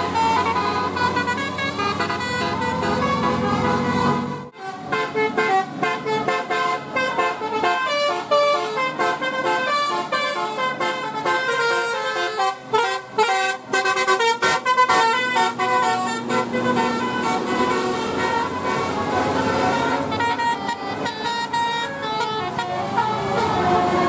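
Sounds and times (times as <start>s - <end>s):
musical air horns playing a tune: 0.0s - 24.0s.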